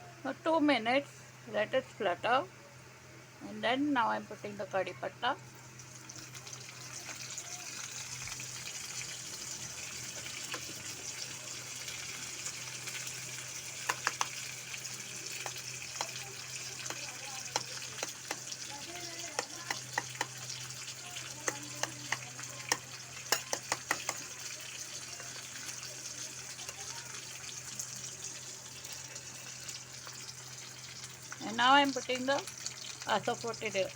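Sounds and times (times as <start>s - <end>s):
spices sizzling in hot oil: 0.0s - 33.9s
oil popping and crackling: 5.5s - 33.9s.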